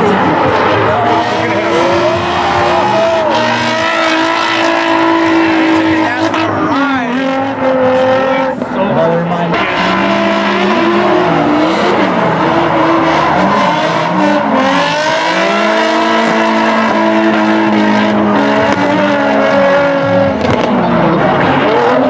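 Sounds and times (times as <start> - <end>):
car engines revving hard: 0.0 - 22.0.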